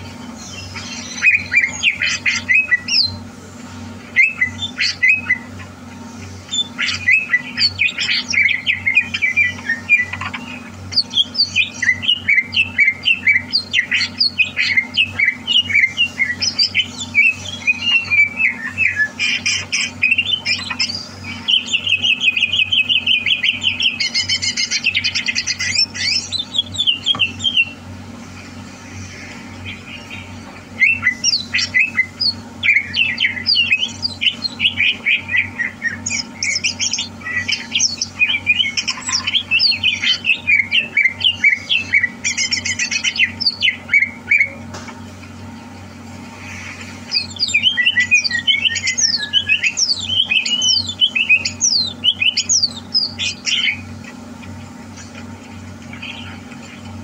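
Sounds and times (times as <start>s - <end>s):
bird singing chirps and whistles: 0.0s - 3.2s, 4.1s - 5.5s, 6.4s - 27.8s, 29.0s - 44.6s, 47.1s - 53.9s
bird trill: 0.0s - 3.3s, 3.9s - 44.6s, 45.6s - 54.3s, 55.9s - 57.0s.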